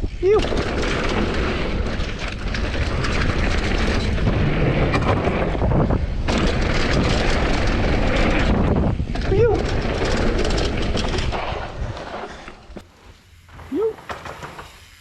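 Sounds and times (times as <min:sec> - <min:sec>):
wind buffeting microphone: 0:00.0 - 0:12.8
bike rattles and knocks: 0:00.0 - 0:15.0
tyres on dirt trail: 0:00.0 - 0:15.0.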